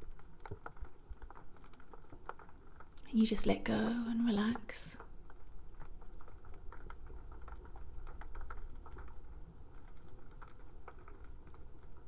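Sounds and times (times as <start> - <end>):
bubbling: 0.0 - 12.0.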